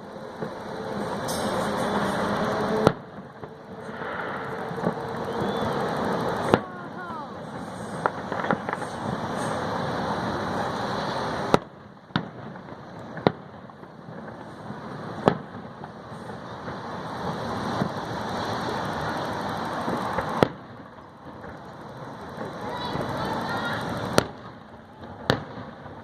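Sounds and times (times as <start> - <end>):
fireworks bangs: 0.0 - 26.0
rushing crackling noise: 0.0 - 26.0.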